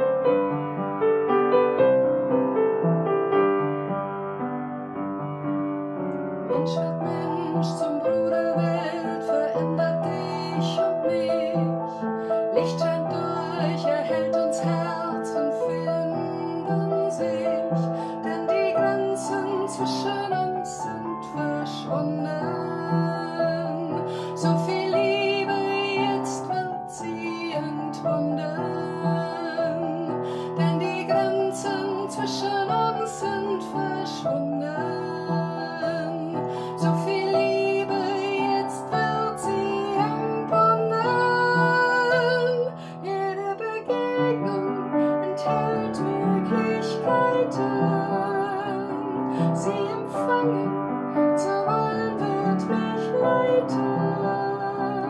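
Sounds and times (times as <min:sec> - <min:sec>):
upright piano: 0:00.0 - 0:55.0
woman singing with vibrato: 0:06.6 - 0:55.0.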